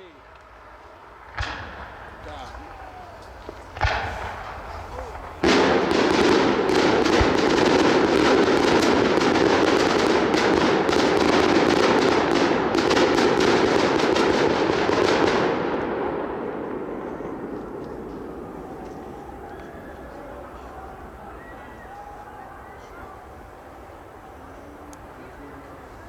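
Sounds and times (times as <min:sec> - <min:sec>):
fireworks crackling bangs: 0:00.0 - 0:26.0.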